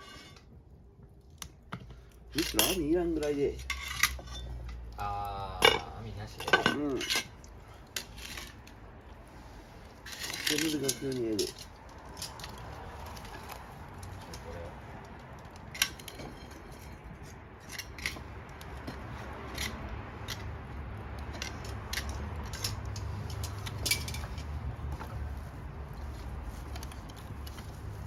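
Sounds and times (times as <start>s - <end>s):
campfire crackling: 0.0s - 3.6s, 4.5s - 28.0s.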